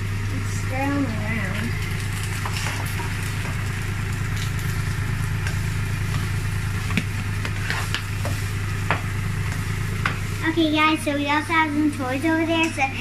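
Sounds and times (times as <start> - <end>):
vegetables sizzling in oil: 0.0 - 10.6
steady low hum: 0.0 - 13.0.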